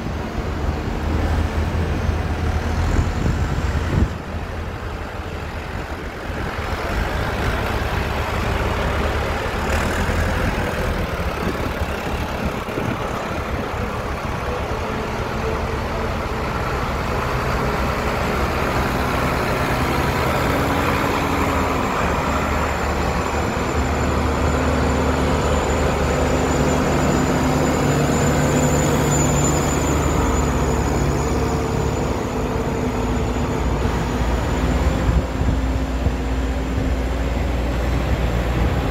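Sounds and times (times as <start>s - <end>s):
tractor diesel engines: 0.0s - 38.9s.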